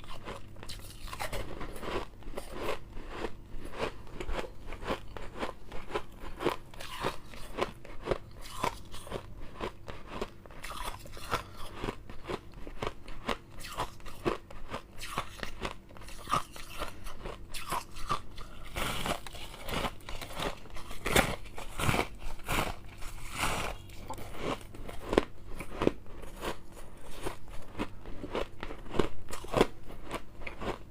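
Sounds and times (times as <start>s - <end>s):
crunching and chewing ice: 0.0s - 30.9s.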